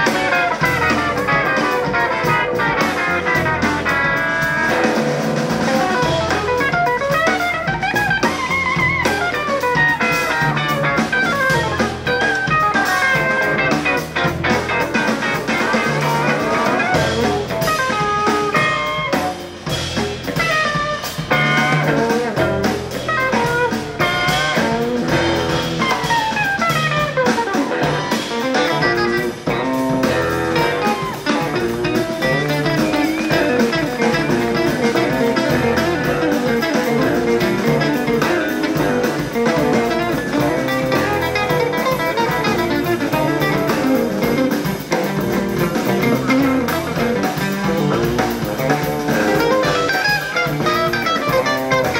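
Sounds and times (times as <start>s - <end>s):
bass and drums: 0.0s - 51.9s
electric guitar runs: 0.0s - 51.9s.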